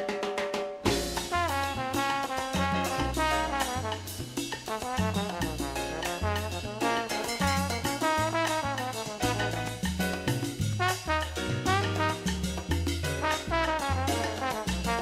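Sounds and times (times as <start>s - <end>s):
latin brass music: 0.0s - 15.0s.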